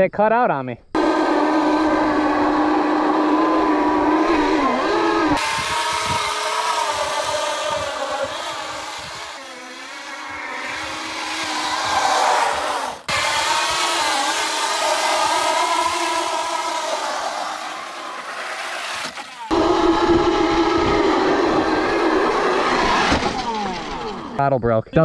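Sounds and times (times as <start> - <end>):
electric motor whining: 1.0 - 24.4
tyre spinning on asphalt: 1.0 - 24.4.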